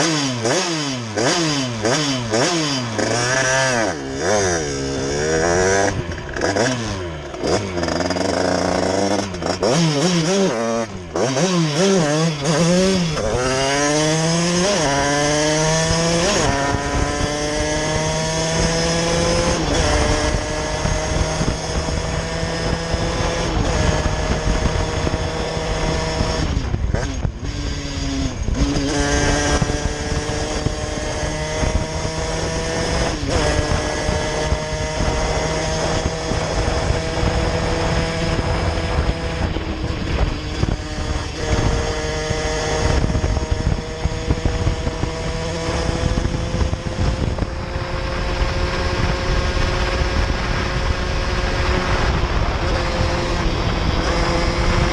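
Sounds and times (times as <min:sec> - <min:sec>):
moped engine revving: 0:00.0 - 0:54.9.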